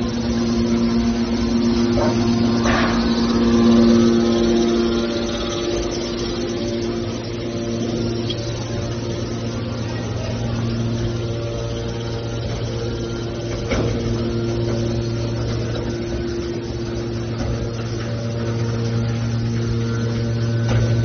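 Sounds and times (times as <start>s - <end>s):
hydraulic power unit humming: 0.0s - 21.0s.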